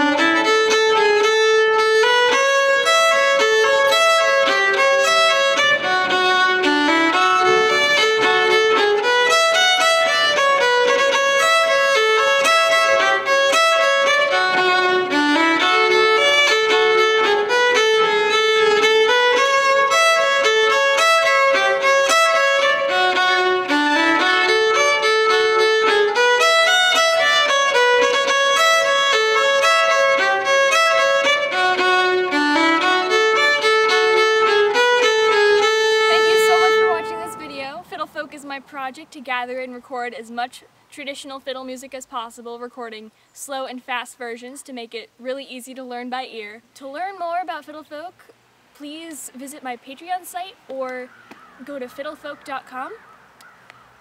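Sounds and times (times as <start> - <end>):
solo fiddle melody: 0.0 - 54.0.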